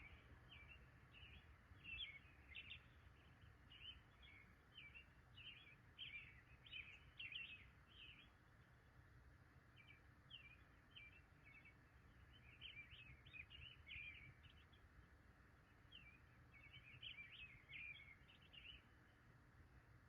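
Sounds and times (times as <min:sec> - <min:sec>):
faint birdsong chirps: 0:00.0 - 0:20.0.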